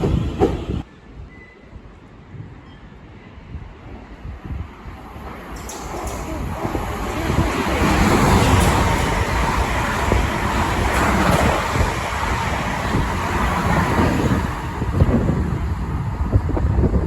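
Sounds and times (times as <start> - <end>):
train rushing past: 0.0 - 1.2, 3.2 - 17.0
wind buffeting microphone: 0.0 - 17.0.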